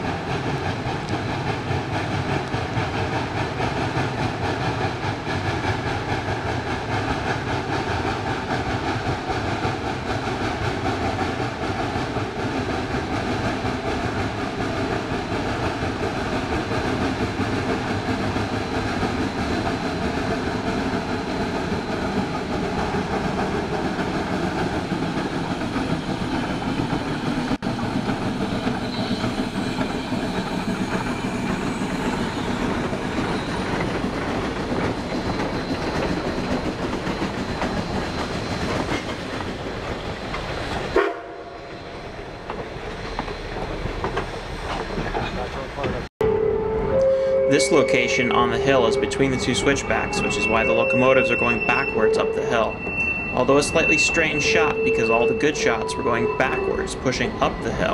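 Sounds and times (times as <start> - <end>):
train cars rolling: 0.0 - 46.1, 47.0 - 57.9
steam locomotive working hard: 0.0 - 57.9.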